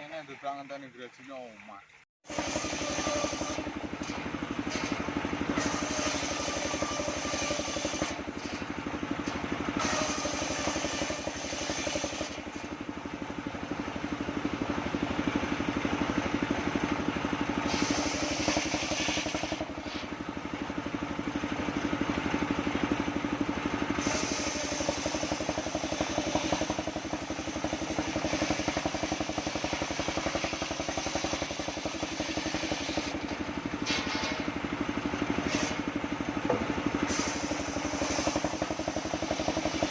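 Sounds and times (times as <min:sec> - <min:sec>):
sawmill engine running: 0:00.5 - 0:39.9.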